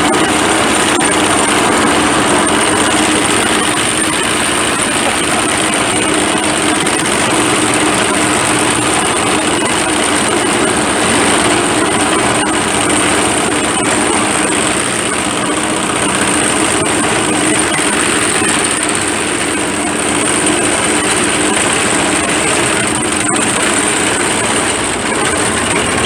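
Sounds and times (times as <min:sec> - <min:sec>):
steady high whine: 0:00.0 - 0:26.0
tractor engine running: 0:00.0 - 0:26.0.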